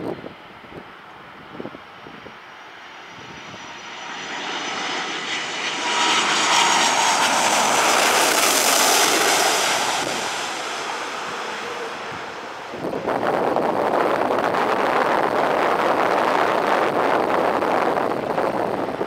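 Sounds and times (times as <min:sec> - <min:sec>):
jet roar with high whine: 0:00.1 - 0:19.0.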